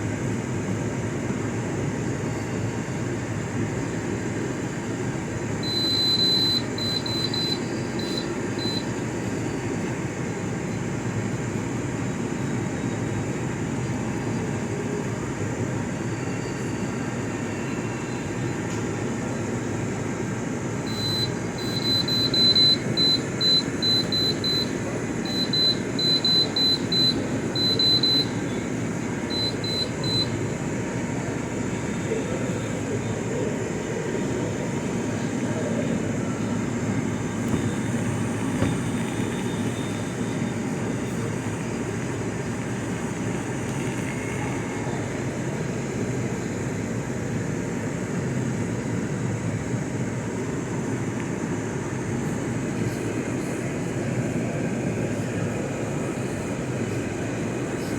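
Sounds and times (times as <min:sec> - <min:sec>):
dehumidifier humming: 0:01.8 - 0:57.9.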